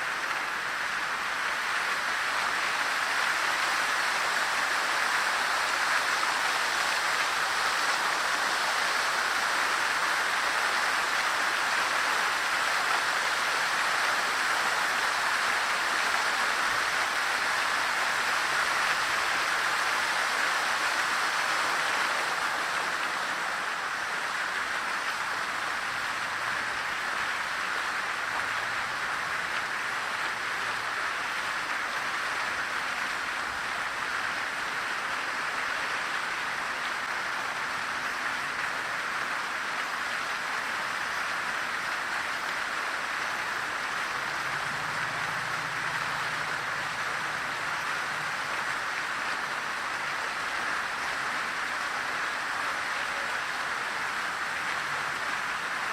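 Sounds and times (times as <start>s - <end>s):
fountain water splashing: 0.0s - 55.9s.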